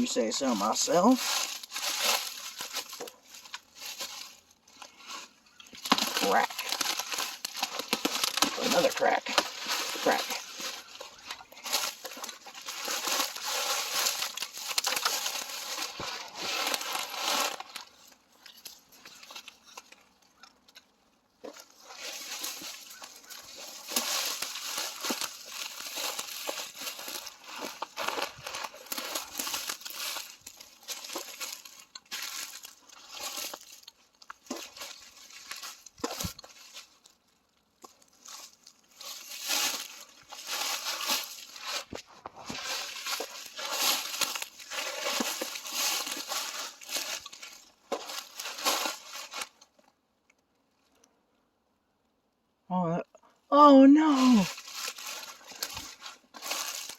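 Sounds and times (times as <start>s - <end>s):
footsteps through dry leaves: 0.0s - 49.8s, 53.9s - 56.9s
twigs snapping: 0.0s - 51.1s, 54.2s - 56.9s.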